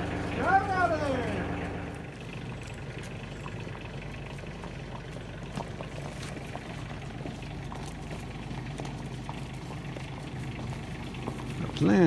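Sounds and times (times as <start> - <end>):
distant tractor engine idling: 0.0 - 12.0.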